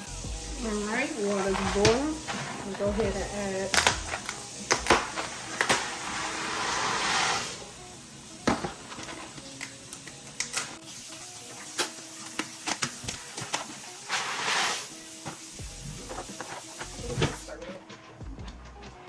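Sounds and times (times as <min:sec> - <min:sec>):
hiss on stove: 0:00.0 - 0:17.6
pots and utensils clinking: 0:00.6 - 0:17.6.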